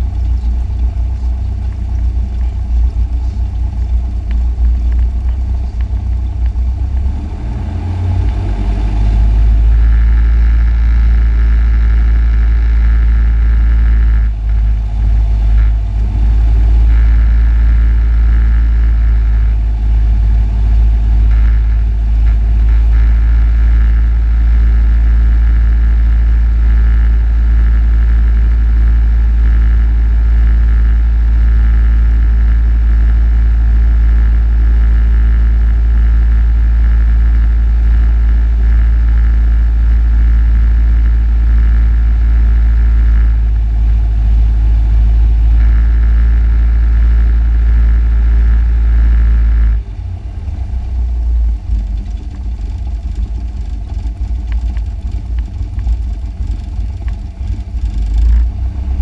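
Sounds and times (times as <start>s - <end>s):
light aircraft engine running: 0.0s - 59.0s.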